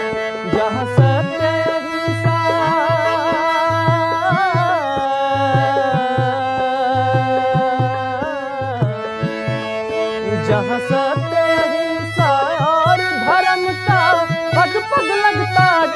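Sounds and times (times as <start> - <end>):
dholak drum beat: 0.0 - 15.9
harmonium melody: 0.0 - 15.9.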